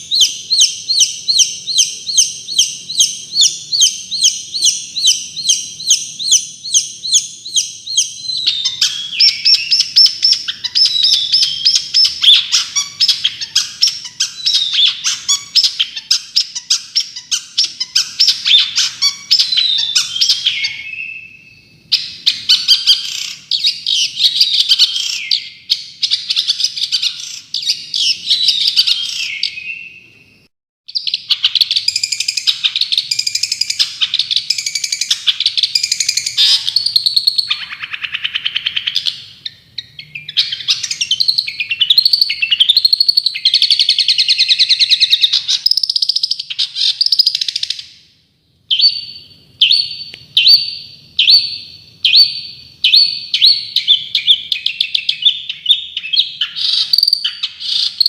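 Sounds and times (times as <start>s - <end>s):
songbird chattering and trilling: 0.0s - 30.0s, 30.9s - 48.0s, 48.7s - 58.0s
sharp repeated bird notes: 0.0s - 58.0s.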